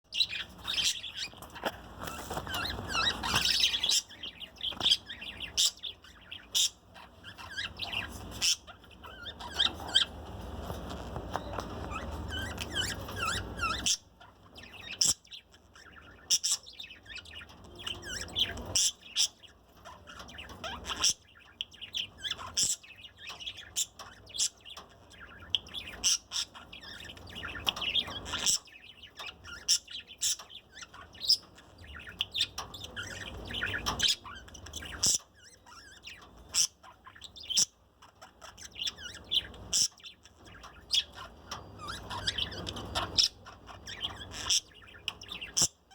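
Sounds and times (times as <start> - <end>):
budgerigar chirping and chattering: 0.1 - 45.9.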